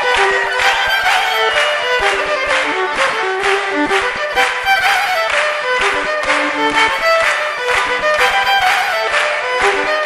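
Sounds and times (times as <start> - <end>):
fiddle folk music: 0.0 - 10.0.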